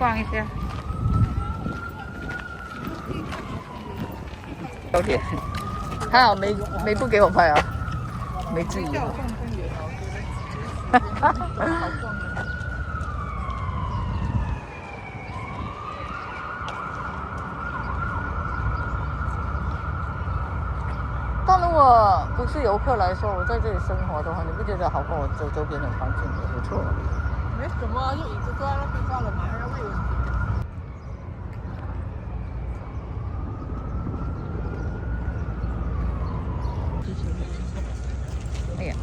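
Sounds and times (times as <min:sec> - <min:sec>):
emergency siren wailing: 0:00.0 - 0:39.0
street traffic rumble: 0:00.0 - 0:39.0
wind: 0:00.0 - 0:39.0.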